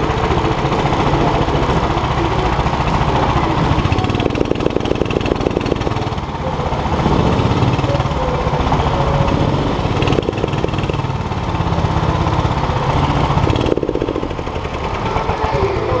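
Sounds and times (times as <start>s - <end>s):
go-kart engine rumbling: 0.0s - 16.0s.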